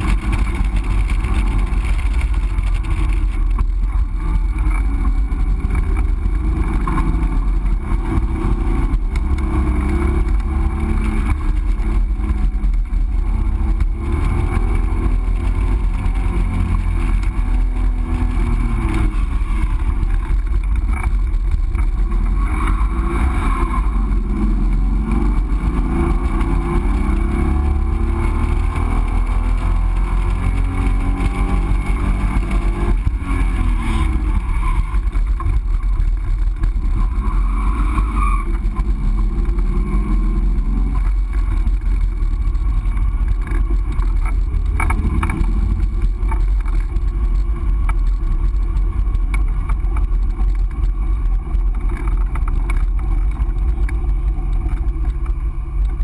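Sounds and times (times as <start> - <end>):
car engine revving under load: 0.0 - 56.0
heavy low rumble: 0.0 - 56.0.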